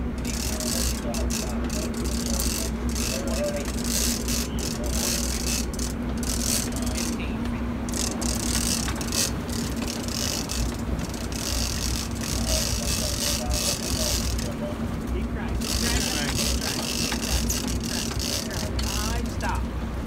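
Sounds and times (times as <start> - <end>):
boat engine droning: 0.0 - 20.0
wind: 0.0 - 20.0
fishing reel clicking: 0.2 - 7.2, 7.9 - 14.6, 15.6 - 19.5.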